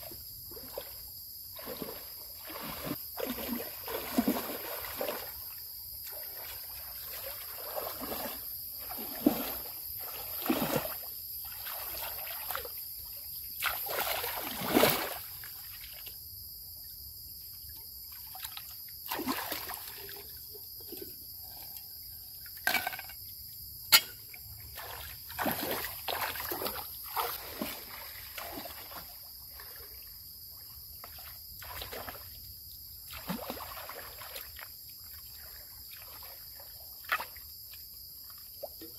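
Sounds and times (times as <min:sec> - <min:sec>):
water splashing and trickling: 0:00.0 - 0:38.9.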